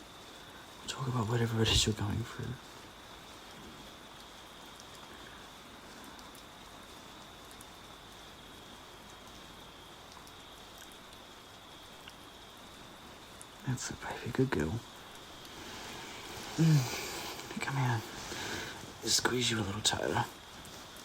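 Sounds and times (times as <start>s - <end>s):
light drips: 0.0s - 21.0s
rain hiss: 0.0s - 21.0s.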